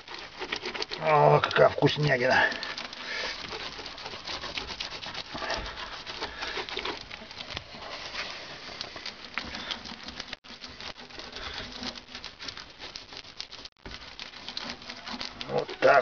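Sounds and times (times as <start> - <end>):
sticky squelching and patting: 0.0 - 16.0.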